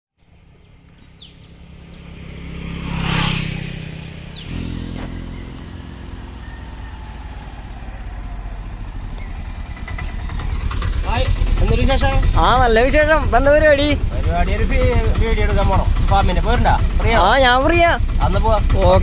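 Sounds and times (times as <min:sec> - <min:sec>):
vehicle engine running: 0:00.2 - 0:19.0.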